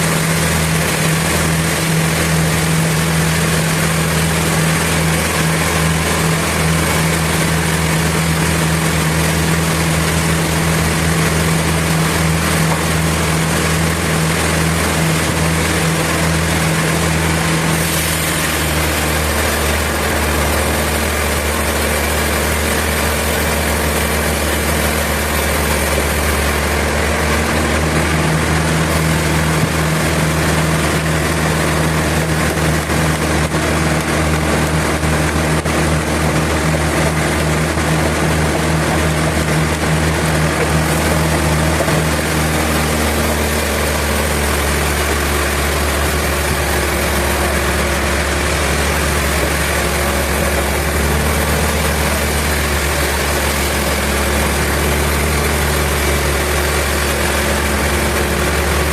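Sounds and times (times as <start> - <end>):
sawmill machinery motor hum: 0.0 - 58.9.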